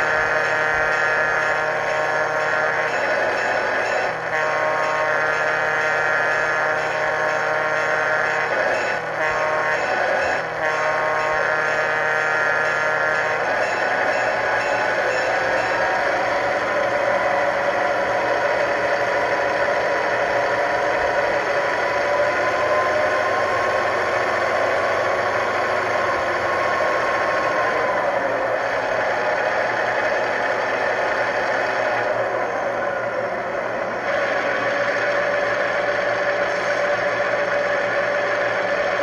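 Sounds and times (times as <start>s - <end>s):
model diesel engine drone: 0.0s - 39.0s.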